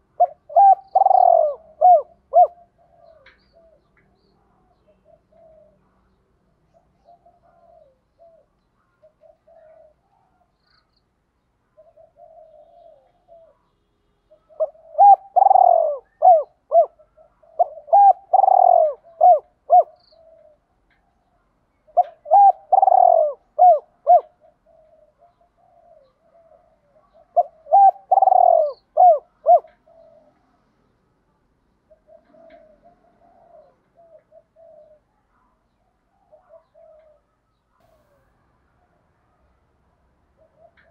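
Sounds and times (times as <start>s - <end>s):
dove cooing: 0.0s - 6.0s, 6.7s - 10.6s, 11.7s - 13.7s, 14.3s - 21.3s, 21.9s - 30.8s, 31.8s - 38.3s, 40.3s - 40.9s.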